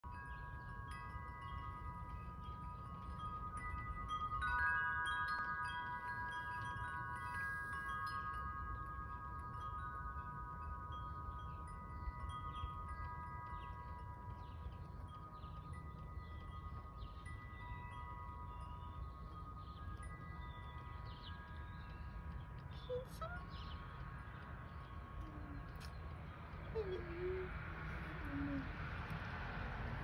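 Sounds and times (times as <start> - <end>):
wind chimes ringing: 0.0 - 29.2
low wind rumble: 0.0 - 30.0.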